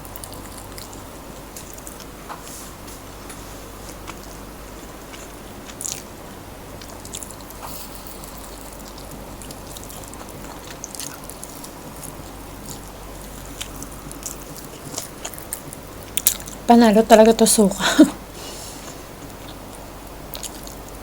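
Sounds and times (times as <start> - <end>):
wet chewing: 0.0 - 2.1, 3.3 - 6.2, 6.8 - 16.7, 18.8 - 21.0
crunching fried chicken: 0.0 - 2.2, 3.3 - 16.7, 18.9 - 21.0.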